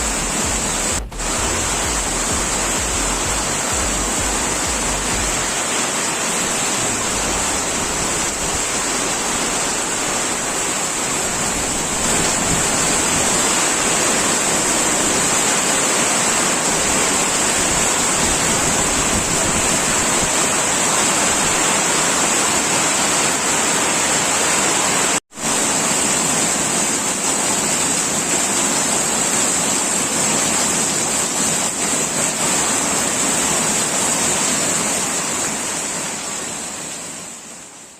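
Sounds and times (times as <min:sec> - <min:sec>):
heavy rain hissing: 0:00.0 - 0:37.9.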